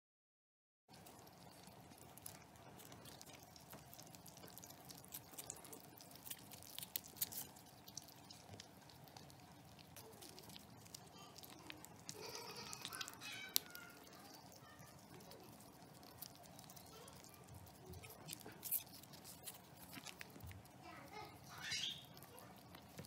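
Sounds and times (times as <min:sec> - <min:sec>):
kittens licking wet clicks: 0:00.9 - 0:23.0.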